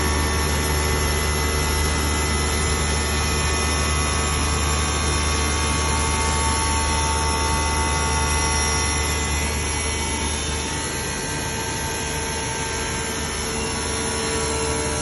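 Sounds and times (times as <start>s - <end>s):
glass cutting machine whirring: 0.0s - 15.0s.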